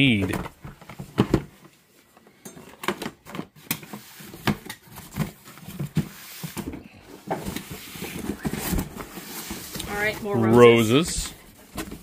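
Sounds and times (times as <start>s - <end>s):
cardboard boxes knocking and rustling: 0.1s - 1.8s, 2.8s - 12.0s.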